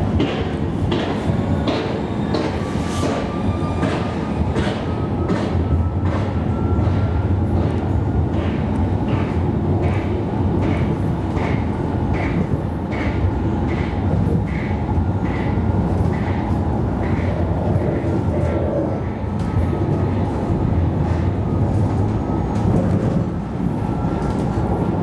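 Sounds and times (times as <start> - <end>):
tram wheels rumbling on rail: 0.0 - 25.0.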